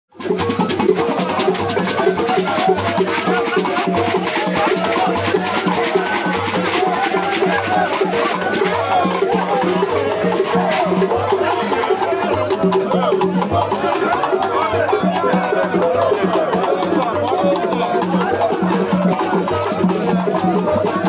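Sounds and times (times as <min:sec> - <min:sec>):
drums repeating beat: 0:00.2 - 0:21.0
voices: 0:00.2 - 0:21.0.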